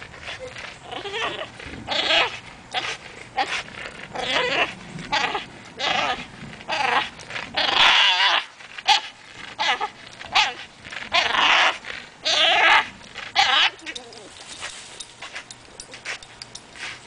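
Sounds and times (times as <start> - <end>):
dog growling: 0.0 - 14.4.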